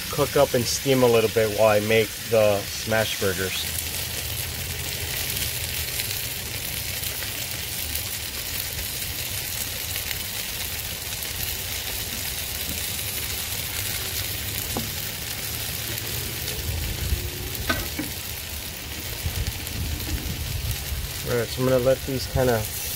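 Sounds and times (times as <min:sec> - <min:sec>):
patties sizzling on a griddle: 0:00.0 - 0:22.9.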